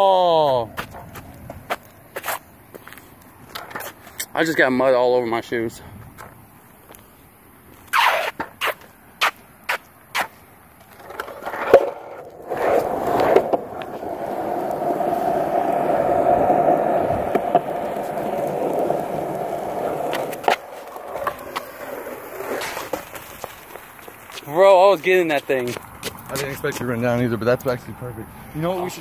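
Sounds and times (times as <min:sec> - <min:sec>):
longboard wheels rolling on pavement: 0:00.0 - 0:29.0.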